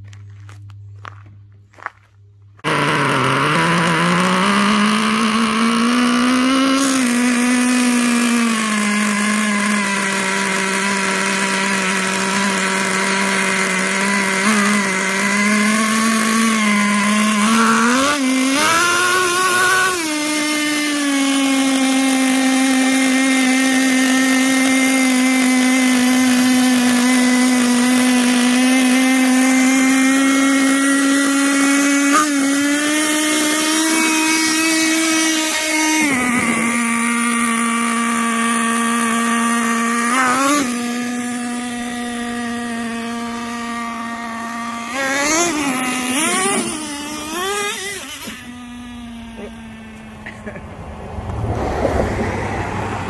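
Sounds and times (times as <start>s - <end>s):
small nitro engine idling: 2.5s - 53.0s.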